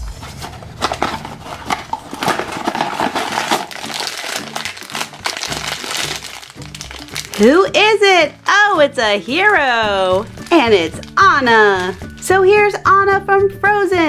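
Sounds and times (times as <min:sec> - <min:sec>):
background music: 0:00.0 - 0:14.0
foil bag crinkling: 0:00.1 - 0:12.6.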